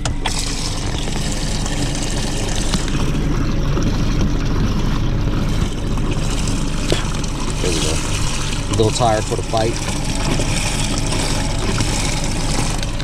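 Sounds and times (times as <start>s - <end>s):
low engine hum: 0.0s - 13.0s
water churning in live well: 0.0s - 13.0s.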